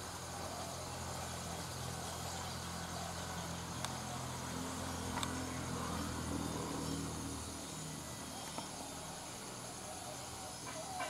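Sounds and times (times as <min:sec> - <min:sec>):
distant engine hum: 0:00.0 - 0:11.0.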